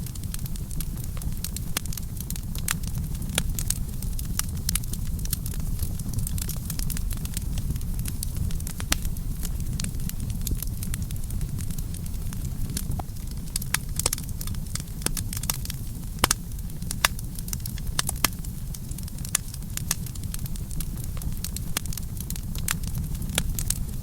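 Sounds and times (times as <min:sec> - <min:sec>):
burning wood crackling and popping: 0:00.0 - 0:24.0
campfire burning: 0:00.0 - 0:24.0.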